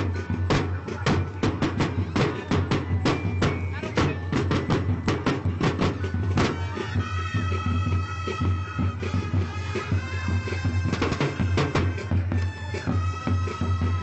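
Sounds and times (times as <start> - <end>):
drum and bugle corps playing: 0.0 - 14.0.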